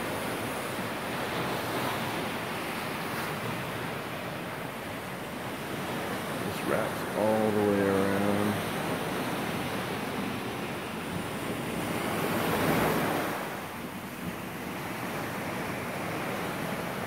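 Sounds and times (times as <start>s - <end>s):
ocean surf on rocky shore: 0.0s - 17.0s.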